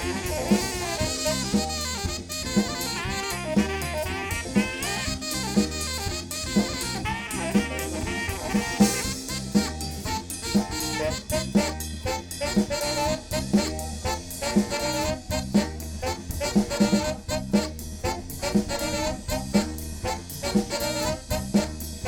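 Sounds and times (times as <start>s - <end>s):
strong drum hits: 0.0s - 21.8s
live band playing: 0.0s - 22.0s
saxophone horn lines: 0.0s - 22.0s.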